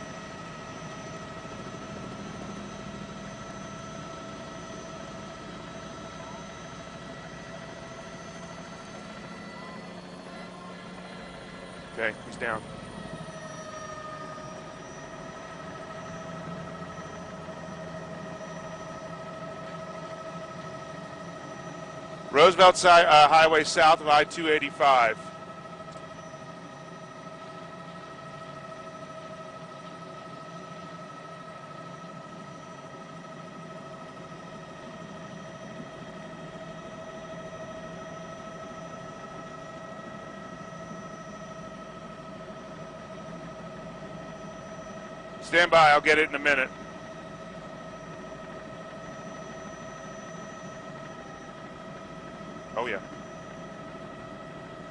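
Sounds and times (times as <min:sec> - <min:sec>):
helicopter engine whine: 0:00.0 - 0:54.9.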